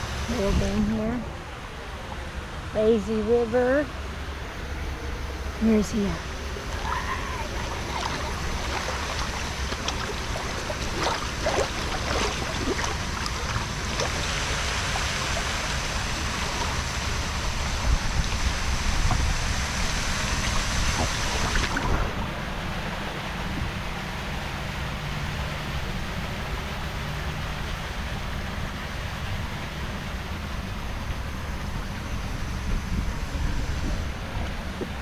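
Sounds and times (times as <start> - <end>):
wind rumble on microphone: 0.0 - 1.5, 5.6 - 35.0
water rushing and splashing: 0.0 - 35.0.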